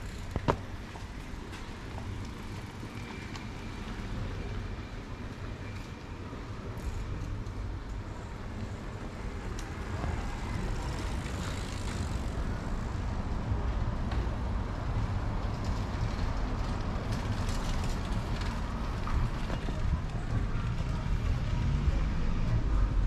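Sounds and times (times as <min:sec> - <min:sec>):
low street rumble: 0:00.0 - 0:23.0.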